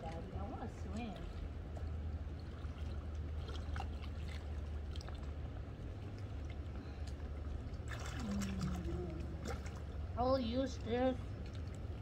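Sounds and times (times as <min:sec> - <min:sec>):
pool water splashing: 0:00.0 - 0:12.0
steady low hum: 0:00.0 - 0:12.0.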